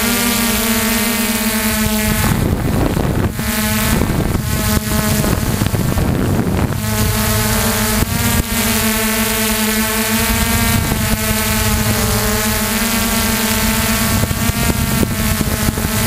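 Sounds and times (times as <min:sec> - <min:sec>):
helicopter motor and rotor whine: 0:00.0 - 0:16.0
wind rushing on microphone: 0:00.1 - 0:16.0.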